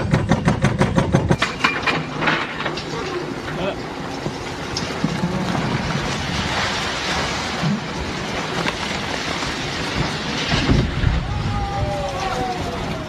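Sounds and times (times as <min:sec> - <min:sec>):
knocks and crashes: 0:00.0 - 0:12.5
building demolition rumbling: 0:00.0 - 0:13.0.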